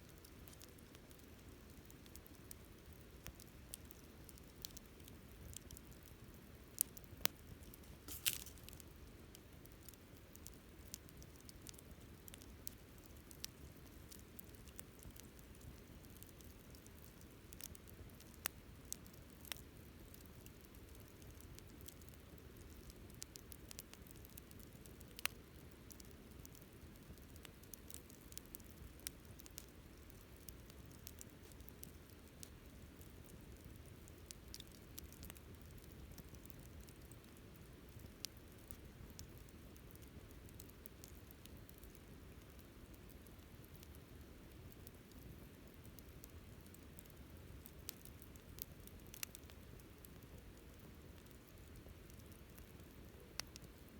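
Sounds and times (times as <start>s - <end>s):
campfire crackling and popping: 0.1s - 53.9s.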